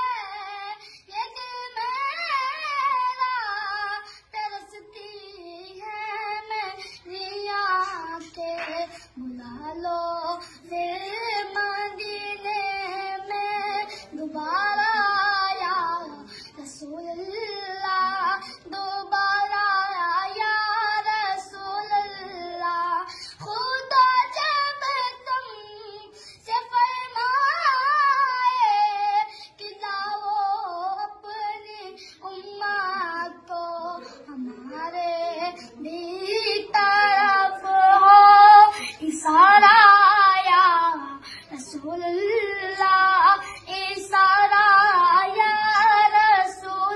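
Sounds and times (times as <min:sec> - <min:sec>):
boy singing devotional song: 0:00.0 - 0:46.9.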